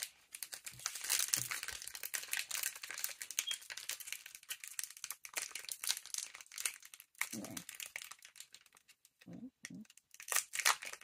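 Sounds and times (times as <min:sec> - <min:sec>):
foil wrapper crinkling: 0:00.0 - 0:09.0, 0:09.9 - 0:11.0.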